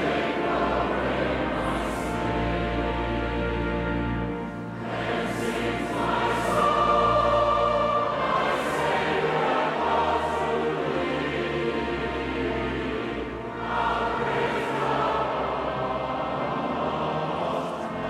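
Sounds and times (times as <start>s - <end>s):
congregation singing a hymn: 0.0s - 18.0s.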